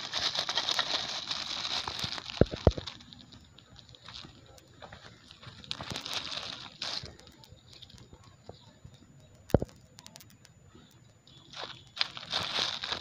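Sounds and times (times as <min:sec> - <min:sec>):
plastic bag crinkling: 0:00.0 - 0:10.4, 0:11.3 - 0:13.0
small ticks: 0:00.3 - 0:13.0.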